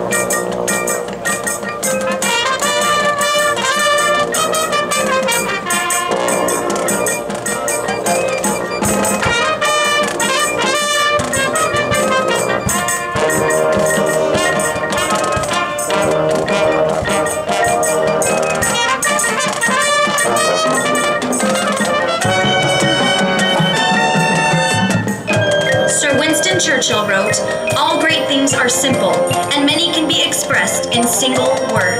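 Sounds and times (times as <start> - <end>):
brass section melody: 0.0 - 31.8
marching drums and percussion: 0.0 - 31.9.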